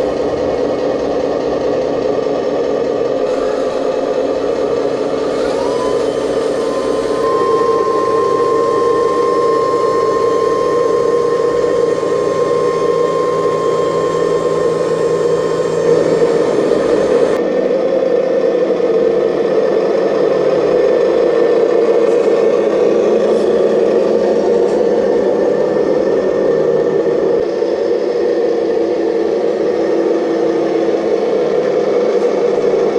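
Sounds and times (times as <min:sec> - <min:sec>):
model excavator electric motor whine: 0:00.0 - 0:32.9.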